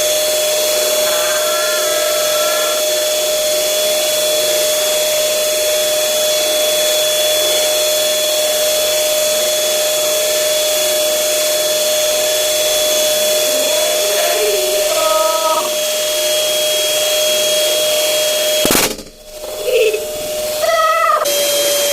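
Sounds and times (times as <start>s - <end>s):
electric air blower running: 0.0s - 21.9s.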